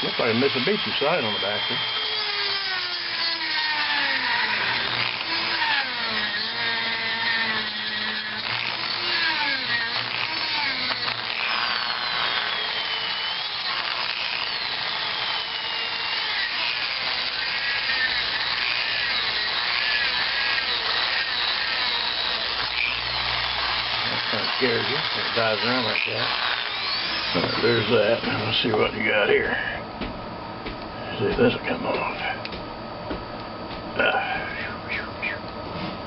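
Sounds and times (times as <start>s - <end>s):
rotary tool motor whine: 0.0s - 29.8s.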